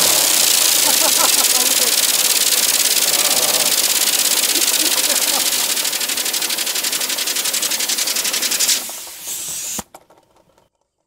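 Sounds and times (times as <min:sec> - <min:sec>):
compressed air hissing: 0:00.0 - 0:09.9.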